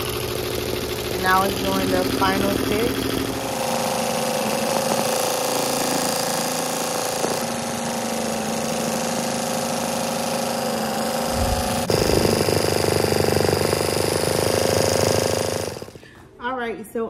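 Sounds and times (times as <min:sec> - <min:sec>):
embroidery machine sewing: 0:00.0 - 0:16.0.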